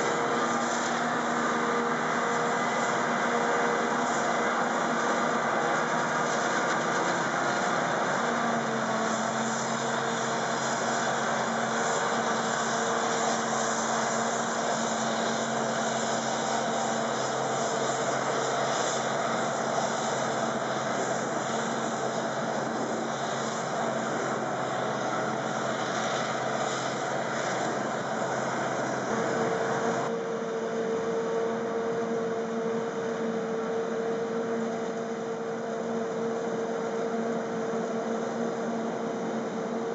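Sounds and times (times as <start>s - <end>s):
forage harvester machine drone: 0.0s - 39.9s.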